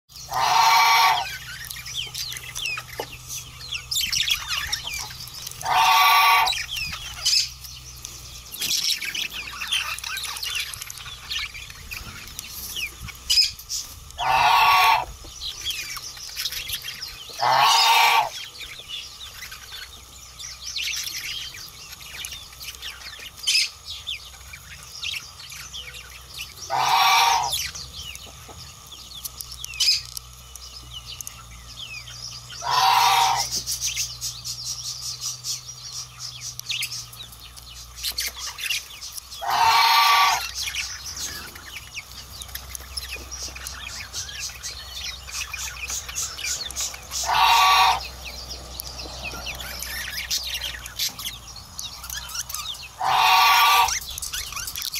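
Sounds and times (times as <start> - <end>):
budgerigar chicks begging calls: 0.1 - 54.9
soft chirps and clicks: 1.2 - 14.2, 18.3 - 26.7, 27.5 - 32.7, 33.4 - 39.5, 40.4 - 47.4, 48.0 - 53.0, 53.9 - 54.9.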